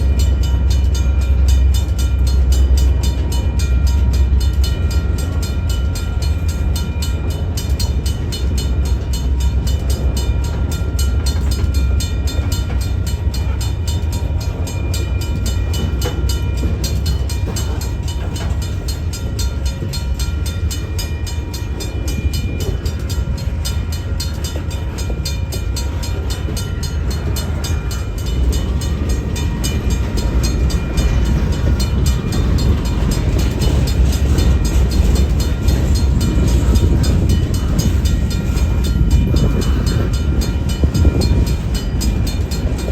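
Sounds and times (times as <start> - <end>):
freight train rumbling past: 0.0 - 42.9.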